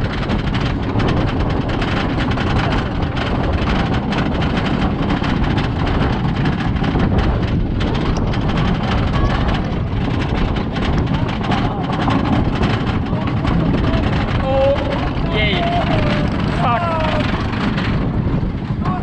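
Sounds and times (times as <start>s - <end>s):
low rumble: 0.0s - 19.0s
roller coaster lift chain clicking: 0.0s - 19.0s.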